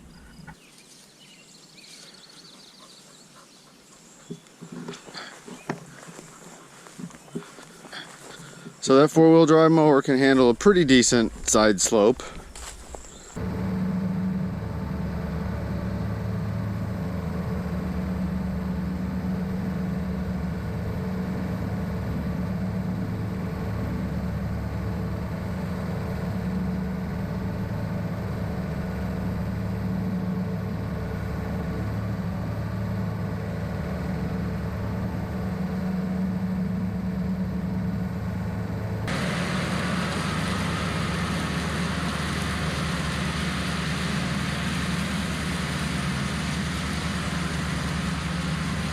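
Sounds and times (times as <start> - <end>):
diesel engine running: 2.1 - 48.9.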